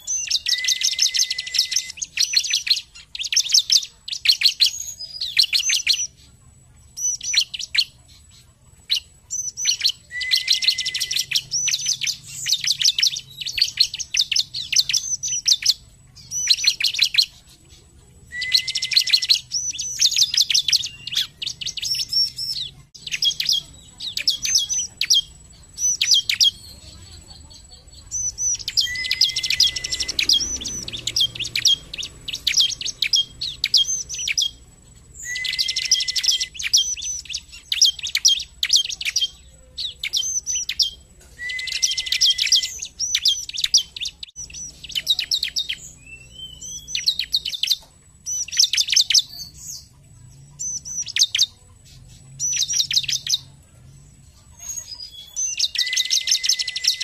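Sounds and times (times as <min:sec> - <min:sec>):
bird chirping rapidly: 0:00.0 - 0:57.0.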